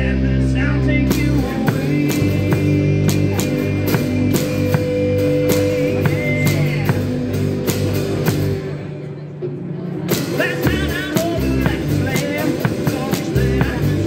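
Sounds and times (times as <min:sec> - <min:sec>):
drum kit steady beat: 0:00.0 - 0:14.0
live rock band playing: 0:00.0 - 0:14.0.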